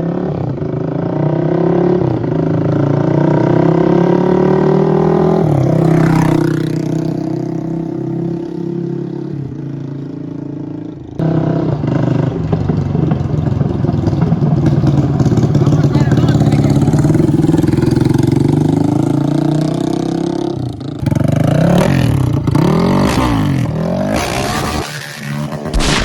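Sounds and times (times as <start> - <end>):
quad bike engine revving: 0.9 - 9.2, 11.2 - 26.0.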